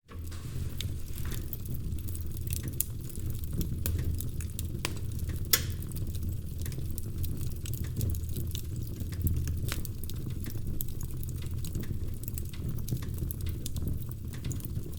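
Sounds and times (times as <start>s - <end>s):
fire rumbling: 0.0s - 14.9s
fire crackling and popping: 0.1s - 14.9s.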